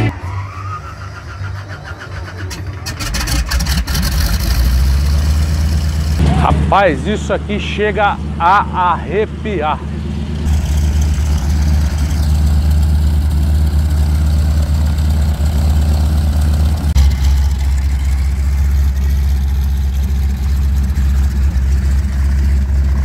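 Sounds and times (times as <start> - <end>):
biplane radial engine rumbling: 0.0 - 23.0.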